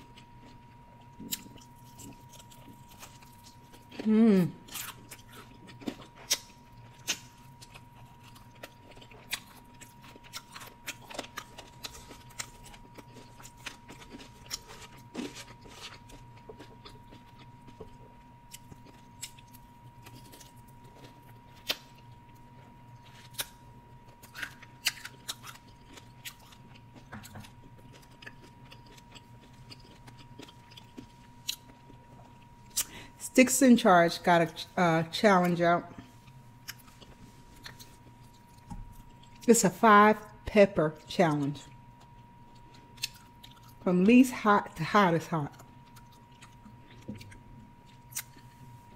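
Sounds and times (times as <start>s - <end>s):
close chewing: 0.0s - 33.0s, 36.0s - 39.5s, 41.6s - 43.8s, 45.4s - 48.9s
faint electrical hum: 0.0s - 48.9s.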